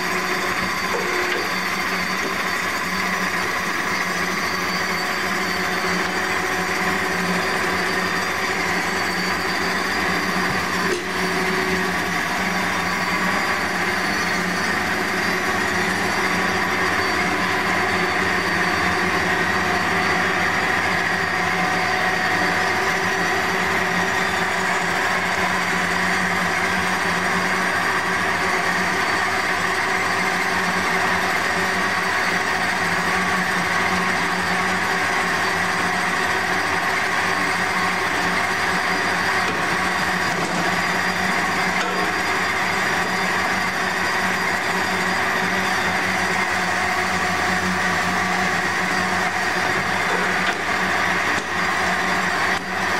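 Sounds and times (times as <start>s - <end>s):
band saw hum with high whine: 0.0s - 52.9s.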